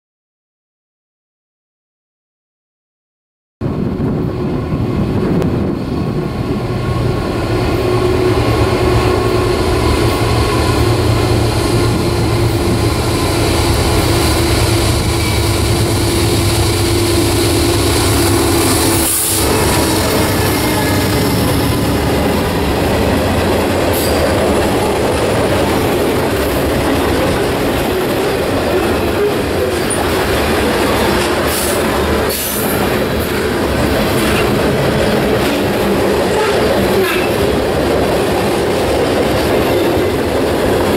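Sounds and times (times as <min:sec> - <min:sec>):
diesel locomotive engines running: 0:03.6 - 0:40.9.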